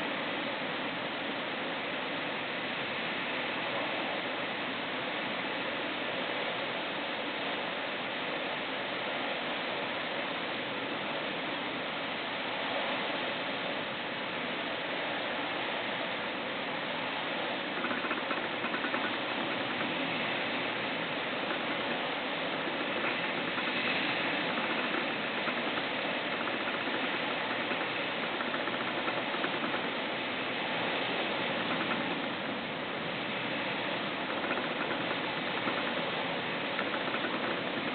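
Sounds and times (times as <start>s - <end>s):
strong wind and rain: 0.0s - 37.9s.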